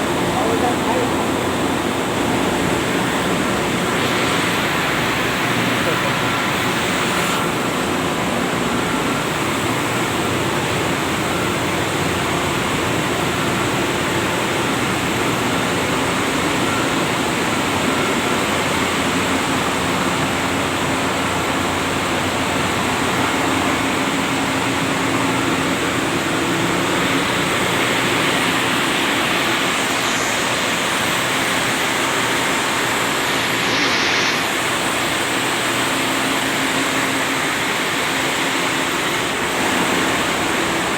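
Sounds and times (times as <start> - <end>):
engine-room machinery running: 0.0 - 40.9.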